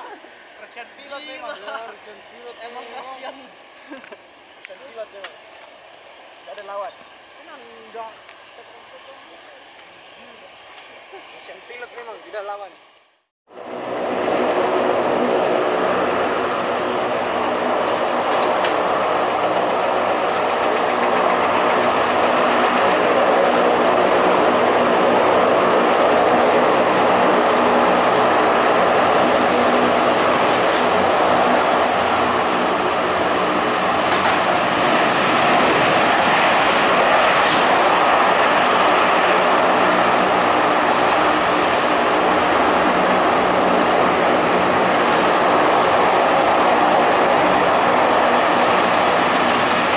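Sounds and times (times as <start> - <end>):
turboprop engines droning: 0.0 - 49.9.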